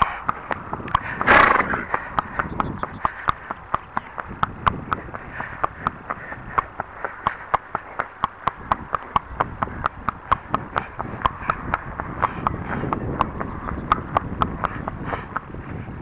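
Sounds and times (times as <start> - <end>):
horse hooves clip-clopping on tarmac: 0.0 - 16.0.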